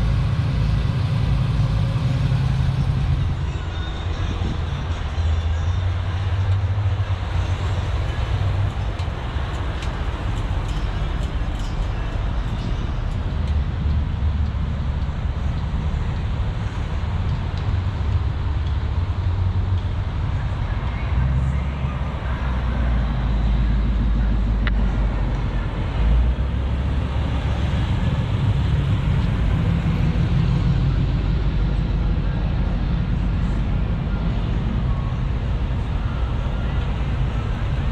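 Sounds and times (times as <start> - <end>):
car engines rumbling: 0.0 - 37.9.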